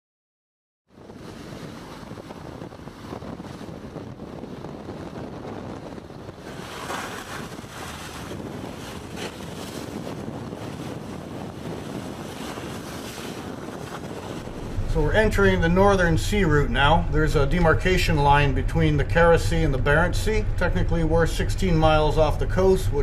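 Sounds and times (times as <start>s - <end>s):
waves rushing past boat: 0.9s - 23.0s
wind buffeting microphone: 0.9s - 23.0s.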